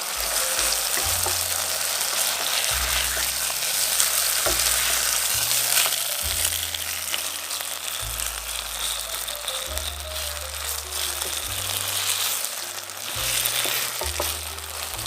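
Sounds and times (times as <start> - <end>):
steak sizzling in a pan: 0.0 - 15.0.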